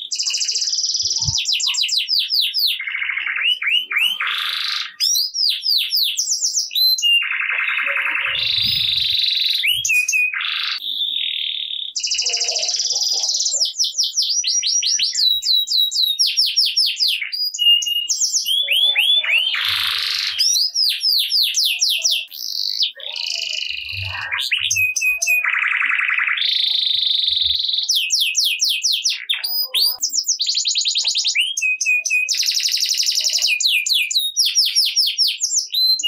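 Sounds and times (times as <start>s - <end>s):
canary singing: 0.0s - 36.0s.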